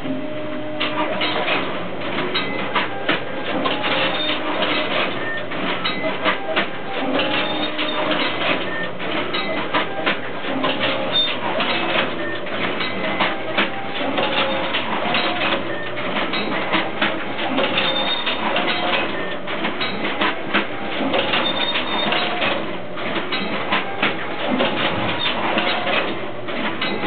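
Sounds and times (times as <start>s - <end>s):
printing machine clattering: 0.0s - 27.0s.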